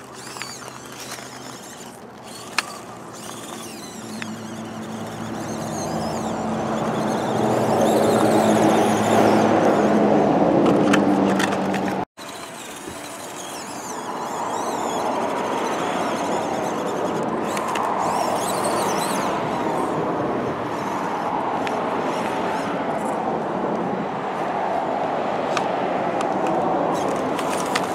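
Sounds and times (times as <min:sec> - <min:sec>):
rc car motor whirring: 0:00.0 - 0:23.2, 0:25.5 - 0:27.9.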